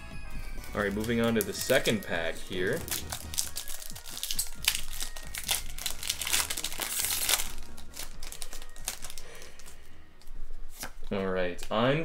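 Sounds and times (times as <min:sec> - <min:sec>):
foil wrapper crinkling: 0:00.4 - 0:11.0.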